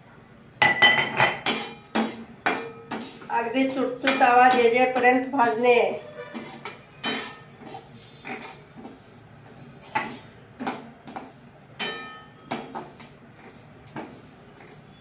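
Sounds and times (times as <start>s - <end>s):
spoon scraping a steel pan: 1.4s - 15.0s.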